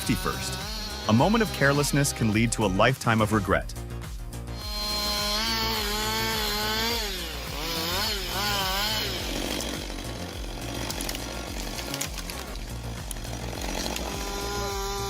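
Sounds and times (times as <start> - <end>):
chainsaw running: 0.0 - 2.5, 4.3 - 15.0.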